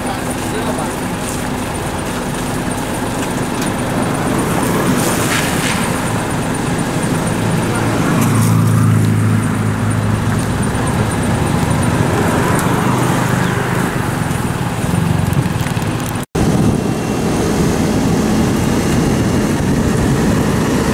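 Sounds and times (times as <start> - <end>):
diesel engine humming: 0.0 - 20.9
street traffic noise: 0.0 - 20.9.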